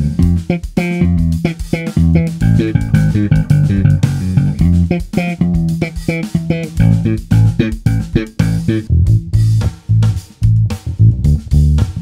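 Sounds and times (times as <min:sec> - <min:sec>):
electric bass plucked: 0:00.0 - 0:12.0.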